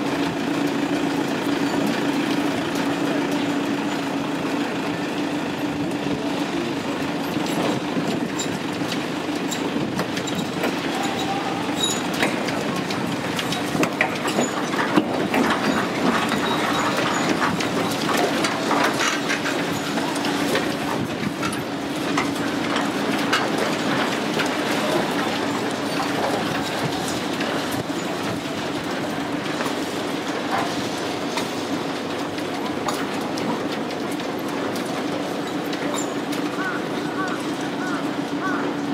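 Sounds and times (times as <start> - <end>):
train cars creaking and clattering: 0.0 - 38.9.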